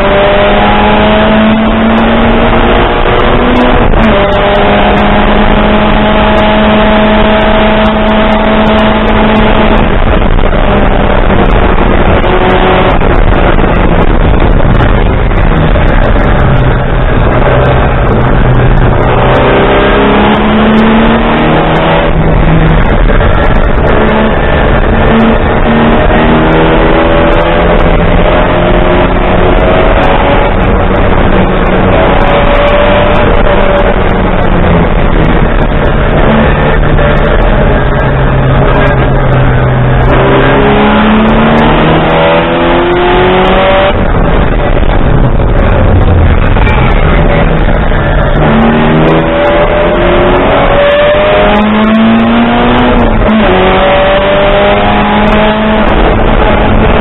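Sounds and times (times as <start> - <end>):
racing car engine revving: 0.0 - 57.0
road noise: 0.0 - 57.0
wind noise: 0.0 - 57.0.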